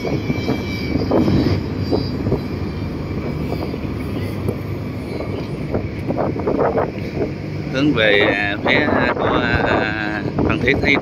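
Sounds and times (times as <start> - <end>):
ferry engine rumbling: 0.0 - 11.0.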